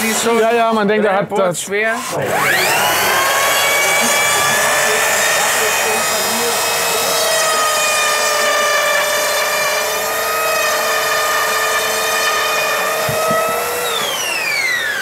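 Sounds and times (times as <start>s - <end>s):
rope saw motor whine: 2.0s - 15.0s.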